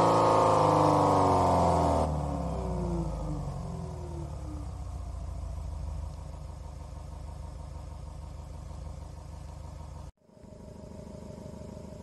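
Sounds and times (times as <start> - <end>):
synthesized car engine idling: 0.0 - 12.0.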